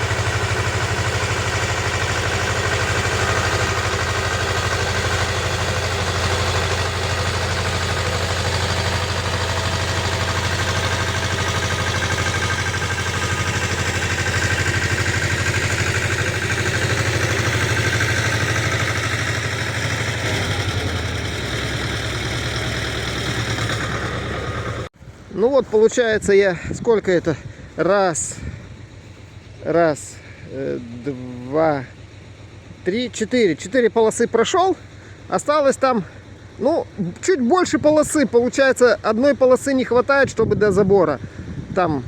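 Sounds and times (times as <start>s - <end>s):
tractor engine running under load: 0.0s - 42.0s.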